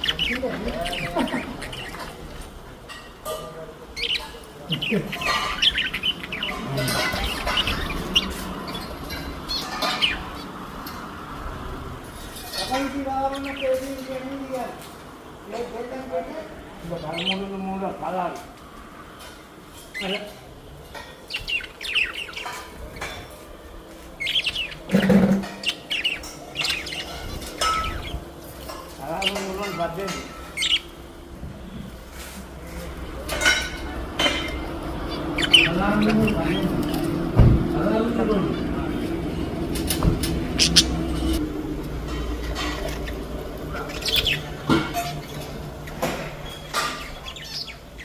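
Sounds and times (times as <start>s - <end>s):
parrots chirping and squawking: 0.0s - 48.0s.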